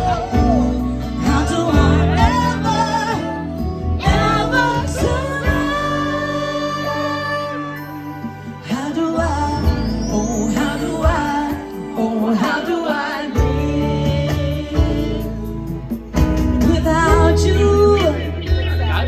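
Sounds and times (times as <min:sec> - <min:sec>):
woman singing ballad on radio: 0:00.0 - 0:15.5, 0:16.6 - 0:18.3
steady bass line: 0:00.0 - 0:19.0.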